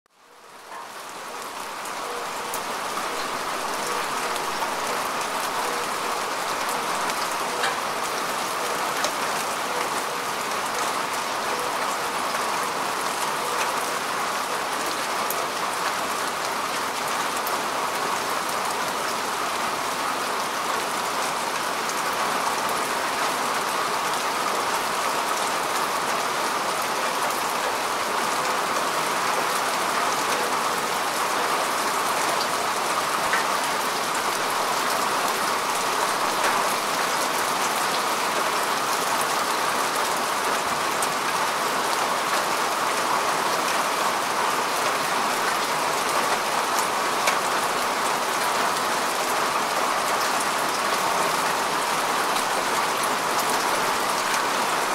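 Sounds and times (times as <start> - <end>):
rain on grass and soil: 0.1 - 54.9.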